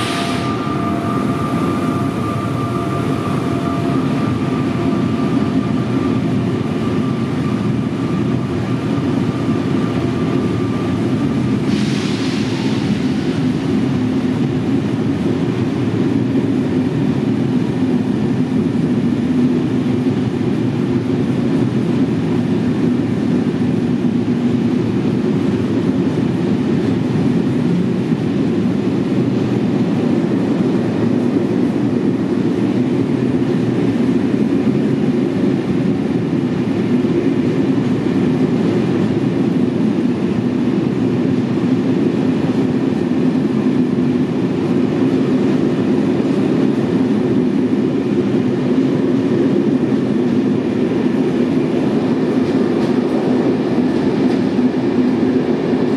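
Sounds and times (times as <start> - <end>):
train rumbling past: 0.0 - 55.9.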